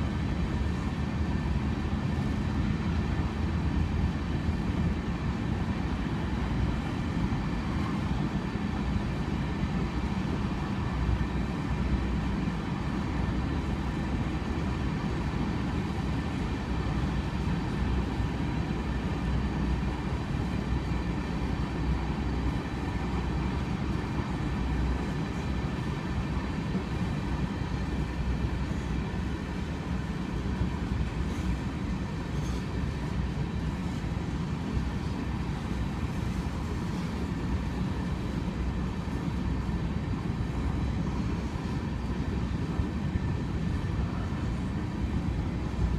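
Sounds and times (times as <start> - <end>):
train rumbling past: 0.0 - 45.9.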